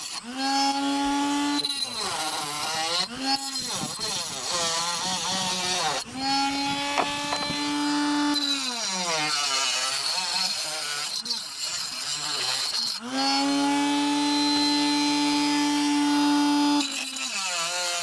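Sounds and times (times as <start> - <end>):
power tool motor cutting plastic: 0.0 - 18.0.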